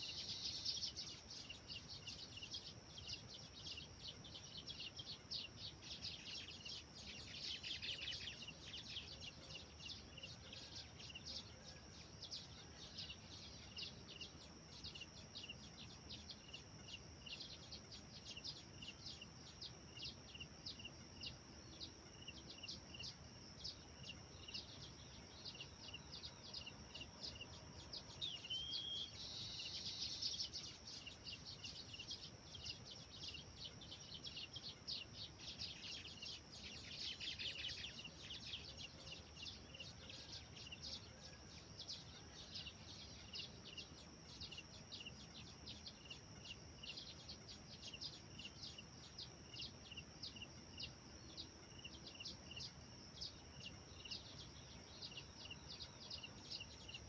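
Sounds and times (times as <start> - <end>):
faint high hiss: 0.0 - 57.0
small songbirds chirping: 0.0 - 57.0.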